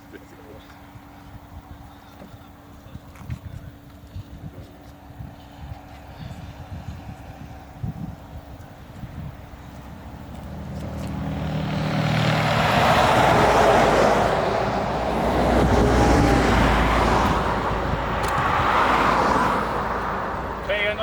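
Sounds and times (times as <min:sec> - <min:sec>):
motor vehicle approaching: 0:00.0 - 0:21.0.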